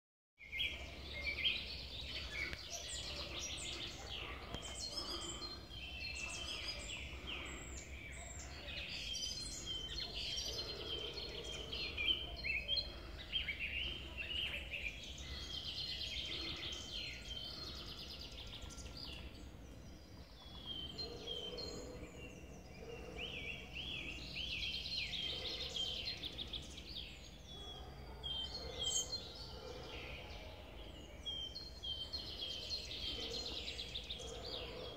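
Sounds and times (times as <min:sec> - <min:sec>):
songbirds singing and chirping: 0:00.4 - 0:34.9.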